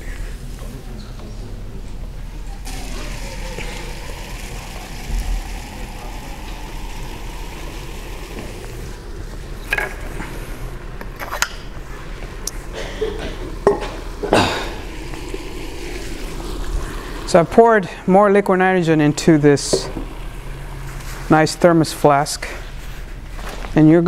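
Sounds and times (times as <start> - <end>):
liquid nitrogen hissing: 2.4 - 23.9.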